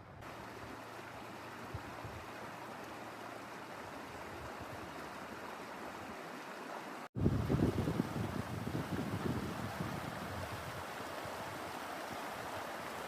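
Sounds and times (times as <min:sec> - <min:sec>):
water rushing over rocks: 0:00.2 - 0:13.0.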